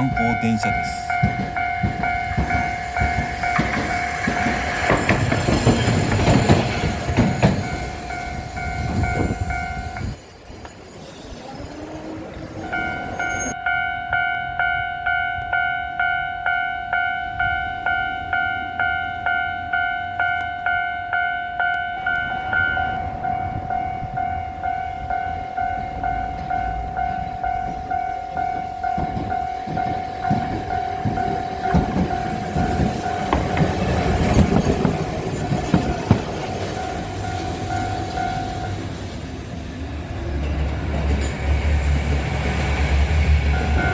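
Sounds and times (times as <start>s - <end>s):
level crossing warning bell: 0.0s - 11.0s, 12.5s - 39.0s, 43.5s - 43.9s
tram wheels clattering over rails: 0.0s - 15.1s, 21.6s - 43.9s.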